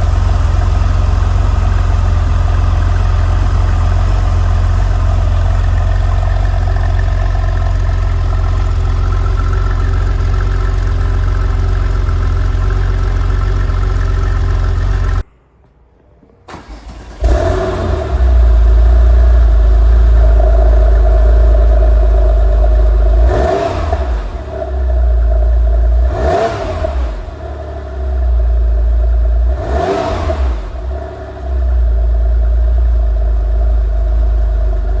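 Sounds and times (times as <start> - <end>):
car engine idling and starting: 0.0 - 15.3, 16.5 - 35.0.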